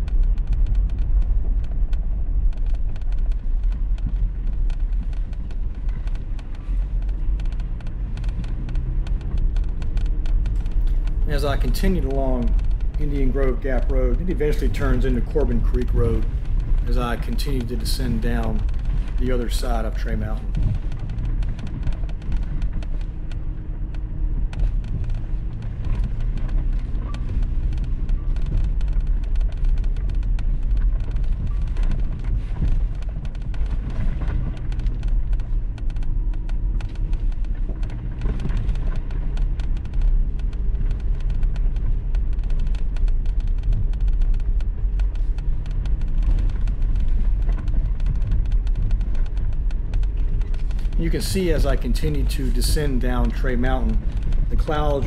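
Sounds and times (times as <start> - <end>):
car engine and tyre noise: 0.0 - 55.0
small clicks and rattles: 0.0 - 55.0.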